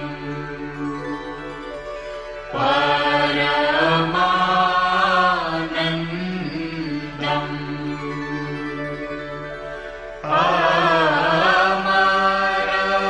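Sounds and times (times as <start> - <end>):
devotional chant singing: 0.0 - 1.7, 2.4 - 13.0
steady drone: 0.0 - 13.0.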